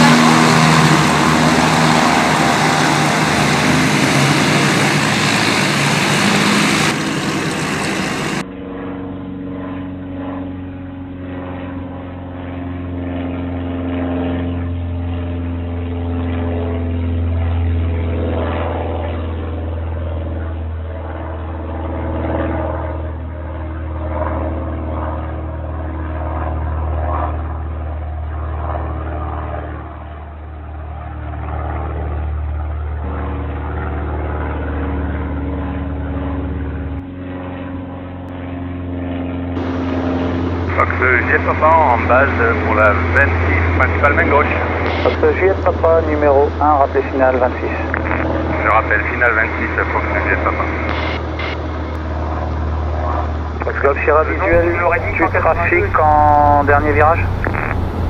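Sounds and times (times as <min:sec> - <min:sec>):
propeller aircraft engine: 0:00.0 - 0:58.0.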